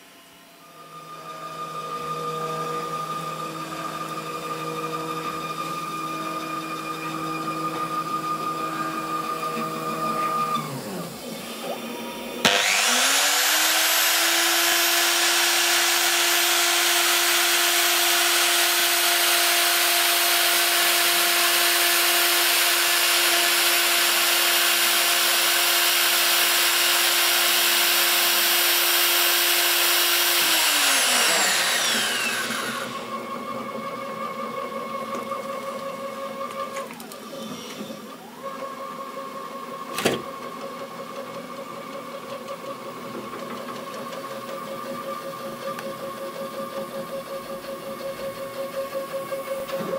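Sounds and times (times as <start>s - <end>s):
router spindle high whine: 0.0s - 49.9s
stepper motors whining: 0.0s - 49.9s.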